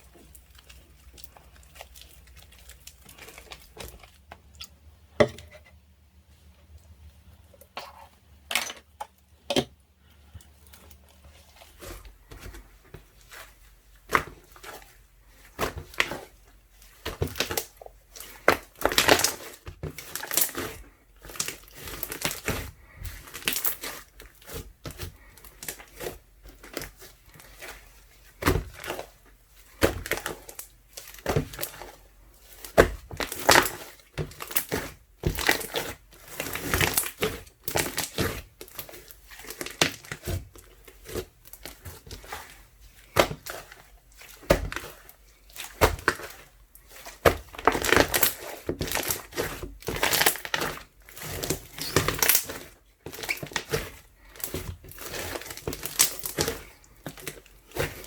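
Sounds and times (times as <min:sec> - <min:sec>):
slime squelching and popping: 0:10.3 - 0:58.0.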